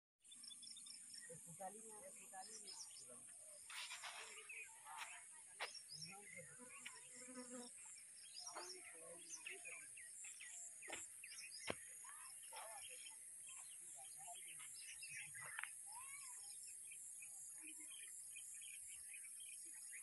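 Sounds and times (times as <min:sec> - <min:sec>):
birds chirping and calling: 0:00.3 - 0:20.0.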